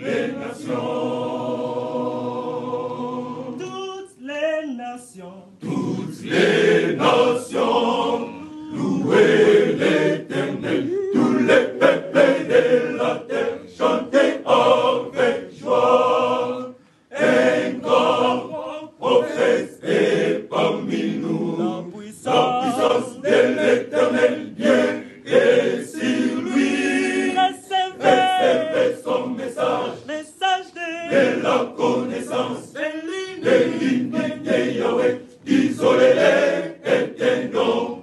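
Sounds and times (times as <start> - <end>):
men's choir singing in harmony: 0.0 - 3.8, 5.6 - 38.0.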